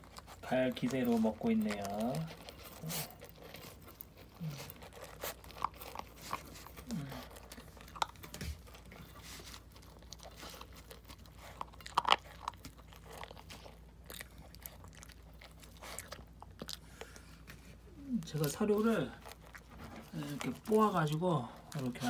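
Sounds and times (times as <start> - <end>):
pet crunching dry kibble: 0.0 - 22.0.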